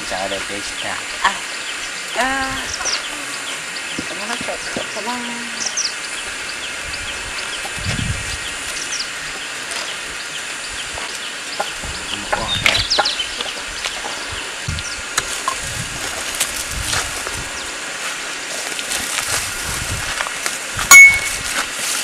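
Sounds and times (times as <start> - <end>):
steady hiss: 0.0 - 22.0
small birds chirping: 0.1 - 17.8.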